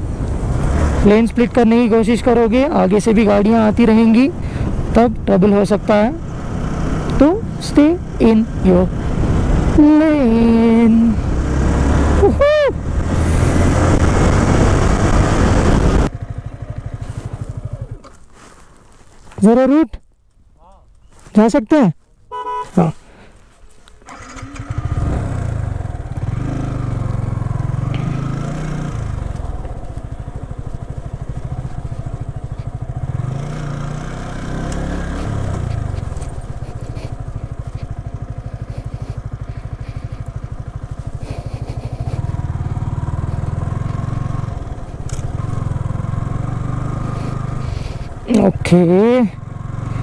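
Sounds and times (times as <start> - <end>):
motorcycle engine revving: 0.0 - 18.4, 24.0 - 50.0.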